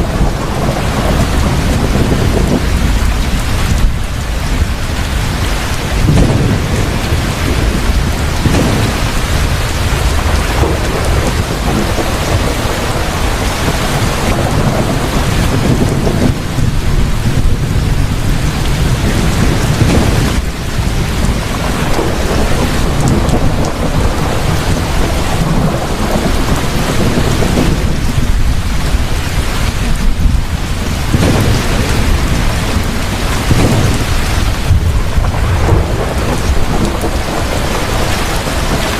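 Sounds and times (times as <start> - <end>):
heavy rain falling: 0.0 - 38.9
low thunder rumbling: 0.0 - 38.9.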